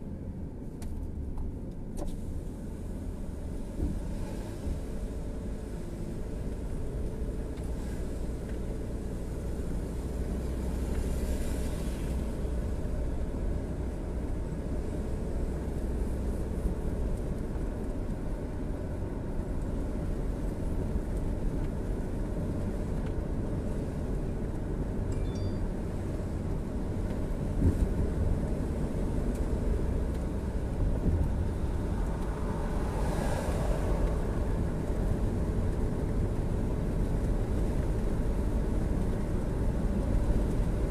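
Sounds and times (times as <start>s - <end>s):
road and engine rumble in car: 0.0s - 40.9s.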